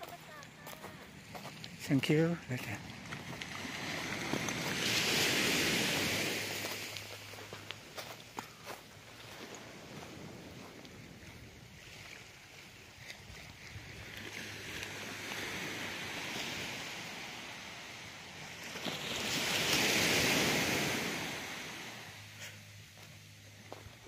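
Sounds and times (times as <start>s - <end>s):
small waves washing onto sand: 0.0s - 24.0s.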